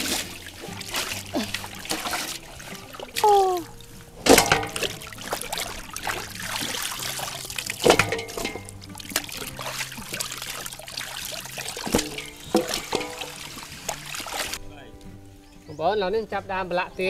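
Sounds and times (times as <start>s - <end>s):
water trickling and splashing: 0.0s - 15.4s.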